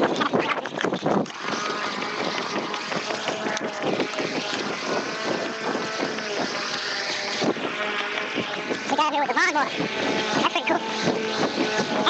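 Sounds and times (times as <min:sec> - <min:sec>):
small gas engines running: 0:00.0 - 0:12.0
wind on microphone: 0:00.0 - 0:12.0.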